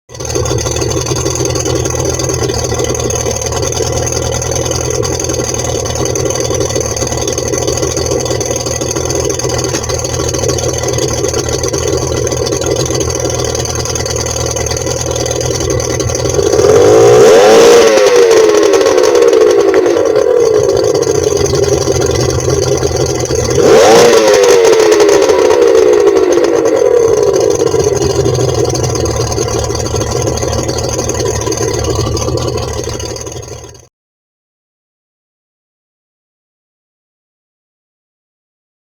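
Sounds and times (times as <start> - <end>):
outboard motor idling and revving: 0.1 - 33.9.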